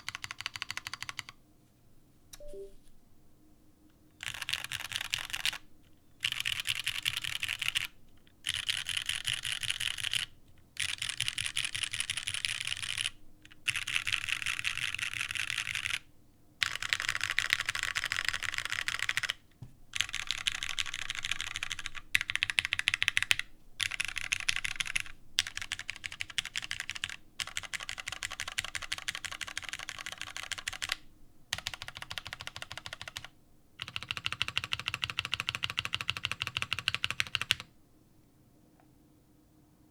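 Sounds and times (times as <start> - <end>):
fast typing on mechanical keyboard: 0.0 - 1.4, 4.2 - 5.6, 6.2 - 37.7.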